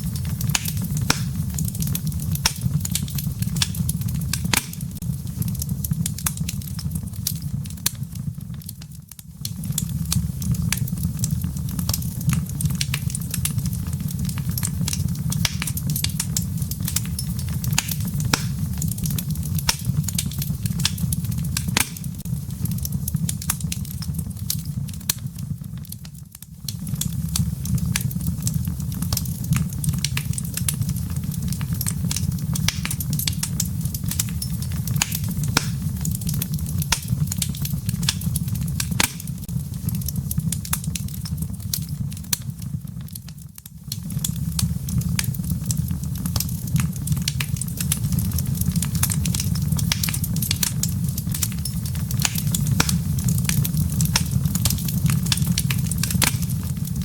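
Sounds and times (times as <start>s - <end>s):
fireplace embers crackling: 0.0s - 57.0s.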